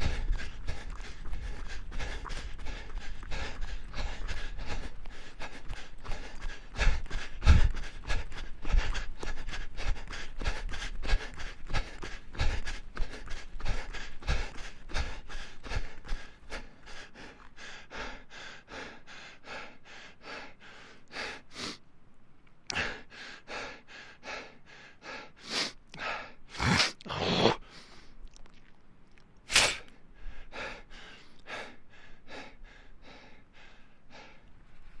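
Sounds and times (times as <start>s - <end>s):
person panting hard: 0.0s - 21.8s, 22.7s - 26.4s, 29.6s - 35.0s.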